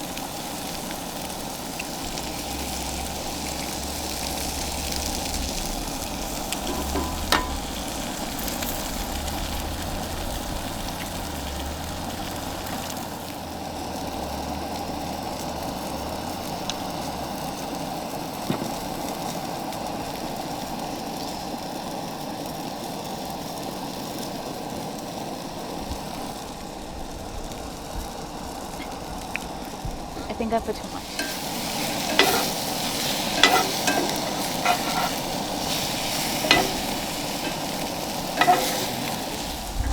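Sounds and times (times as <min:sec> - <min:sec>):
eggs sizzling in a frying pan: 0:00.0 - 0:39.9.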